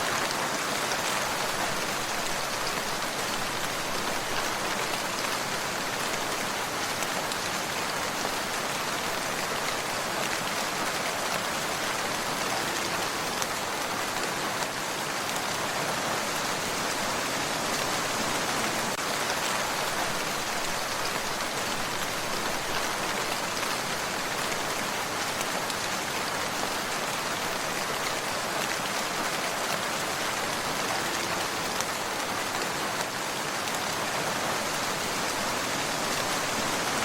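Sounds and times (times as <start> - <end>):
soft rain patter: 0.0 - 37.0.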